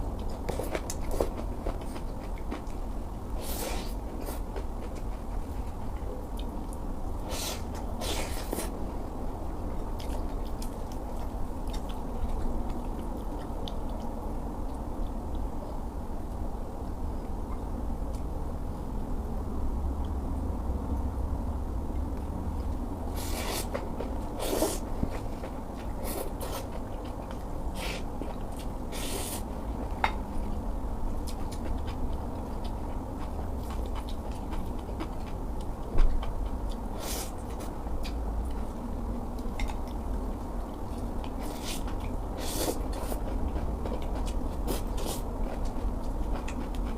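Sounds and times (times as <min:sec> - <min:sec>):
person chewing food: 0:00.0 - 0:16.5, 0:22.0 - 0:46.9
steady low hum: 0:00.0 - 0:46.9.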